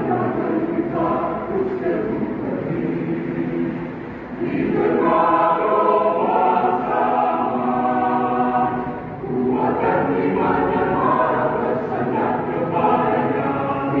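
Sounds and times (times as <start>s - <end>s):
youth choir singing: 0.0s - 14.0s.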